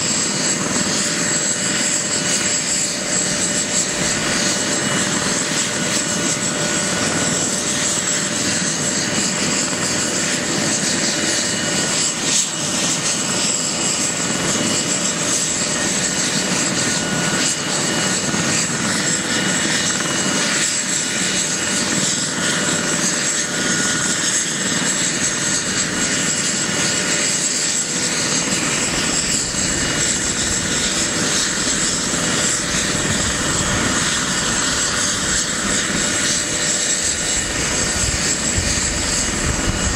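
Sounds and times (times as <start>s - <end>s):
helicopter engines idling: 0.0s - 39.9s.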